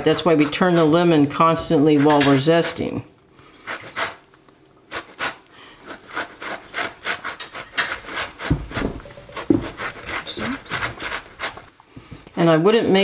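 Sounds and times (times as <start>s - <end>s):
peel scraping on a grater: 0.0s - 2.9s, 3.6s - 4.3s, 4.9s - 11.7s.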